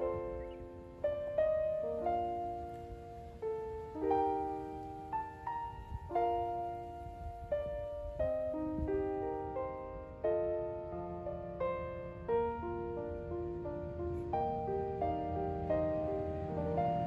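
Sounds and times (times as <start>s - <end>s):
slow solo piano music: 0.0s - 17.0s.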